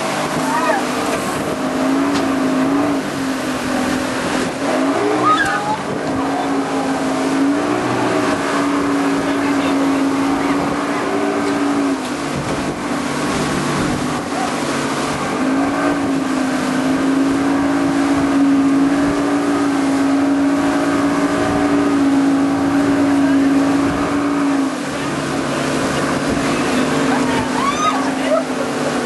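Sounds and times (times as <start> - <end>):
motorboat engine running: 0.0 - 29.0
water noise: 0.0 - 29.0.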